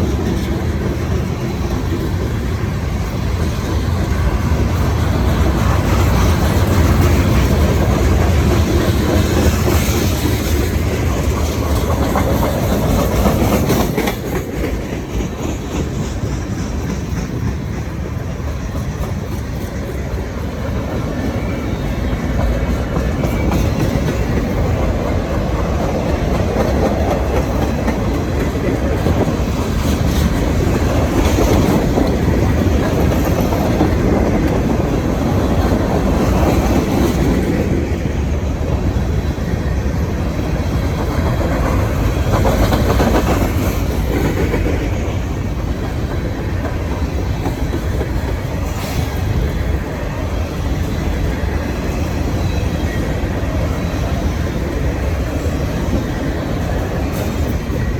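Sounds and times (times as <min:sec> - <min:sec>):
freight train rolling past: 0:00.0 - 0:57.9
wheels clacking over rail joints: 0:00.0 - 0:57.9.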